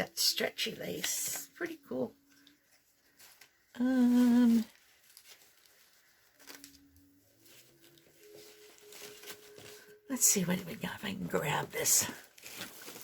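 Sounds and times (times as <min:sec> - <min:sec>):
lace and paper rustling: 0:00.0 - 0:13.0.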